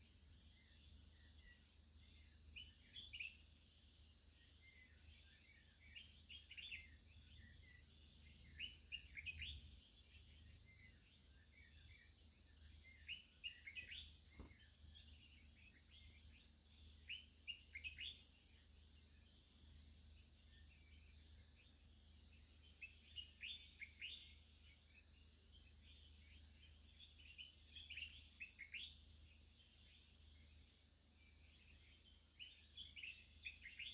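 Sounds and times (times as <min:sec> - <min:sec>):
insect chorus trilling: 0:00.0 - 0:33.9
wild birds chirping: 0:00.0 - 0:33.9.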